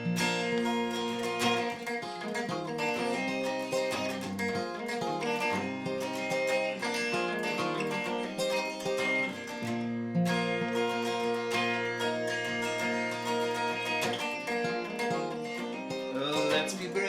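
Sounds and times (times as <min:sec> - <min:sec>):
acoustic guitar strumming and picking: 0:00.0 - 0:17.0.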